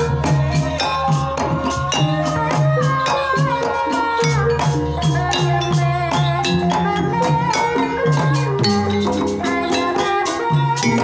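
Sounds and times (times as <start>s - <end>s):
bronze gongs and metallophones: 0.0s - 11.0s
hand drums in steady rhythm: 0.0s - 11.0s.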